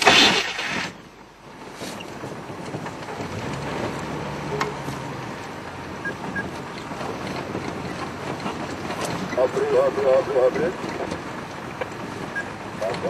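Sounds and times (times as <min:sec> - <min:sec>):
vehicle engine and rolling noise: 0:00.0 - 0:13.0.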